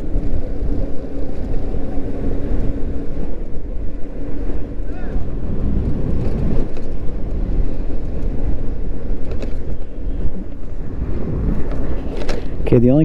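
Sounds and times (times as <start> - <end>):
nearby cars passing: 0.0 - 13.0
wind and road rumble: 0.0 - 13.0.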